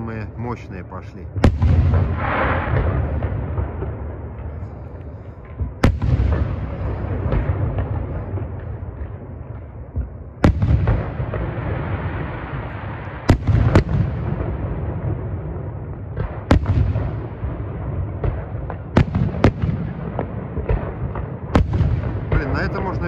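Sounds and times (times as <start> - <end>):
continuous low rumble: 0.0 - 23.0.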